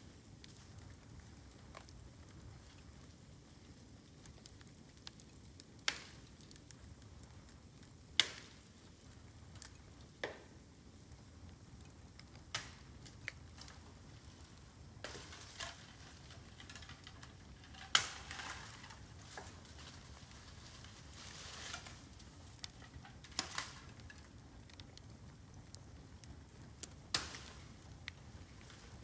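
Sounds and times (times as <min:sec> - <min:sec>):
bamboo popping in fire: 0:00.0 - 0:29.0
fire crackling: 0:00.0 - 0:29.0
hiss of flames: 0:00.0 - 0:29.0.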